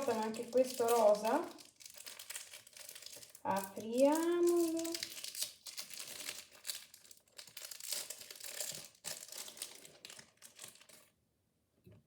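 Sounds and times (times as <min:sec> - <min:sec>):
plastic wrapping crinkling and tearing: 0:00.0 - 0:11.2.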